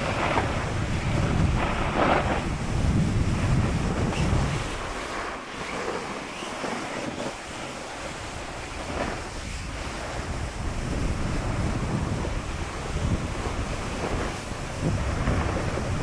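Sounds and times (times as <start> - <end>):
sliding on snow hiss: 0.0 - 16.0
wind buffeting microphone: 0.0 - 16.0.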